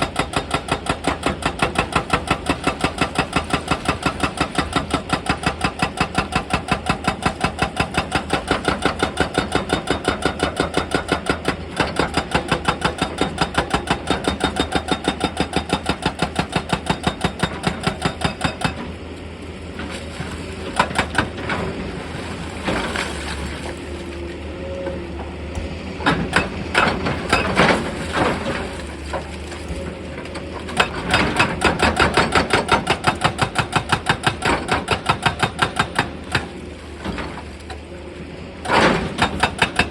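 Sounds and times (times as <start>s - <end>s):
hydraulic rock breaker hammering: 0.0s - 19.0s, 20.6s - 23.2s, 26.0s - 28.8s, 30.6s - 37.8s, 38.6s - 39.9s
excavator engine: 0.0s - 39.9s.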